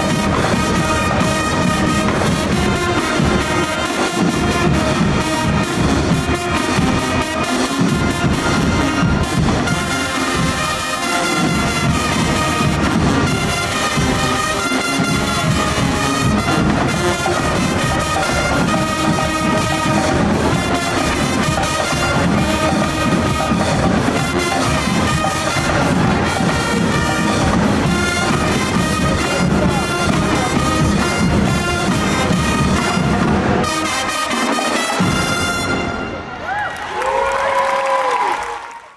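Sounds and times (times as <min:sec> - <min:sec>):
marching band playing: 0:00.0 - 0:38.3
trumpets and trombones: 0:00.0 - 0:38.4.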